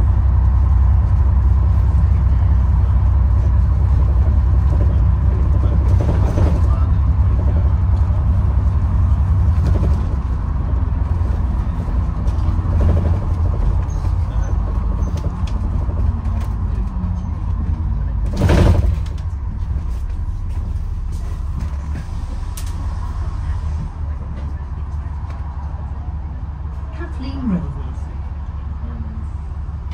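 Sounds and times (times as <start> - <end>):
bus engine rumble: 0.0 - 29.9.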